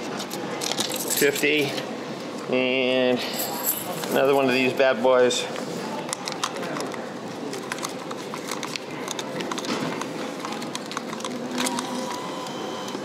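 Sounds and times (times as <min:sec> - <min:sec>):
hum of busy hall: 0:00.0 - 0:13.0.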